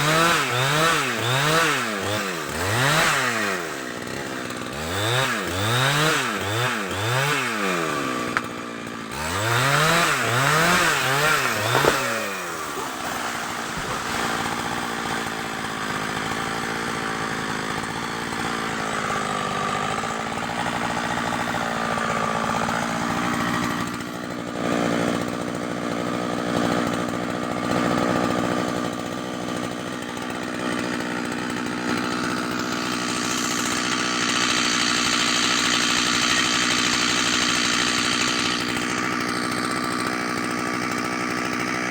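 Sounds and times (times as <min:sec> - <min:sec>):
chainsaw revving and cutting wood: 0:00.0 - 0:41.9.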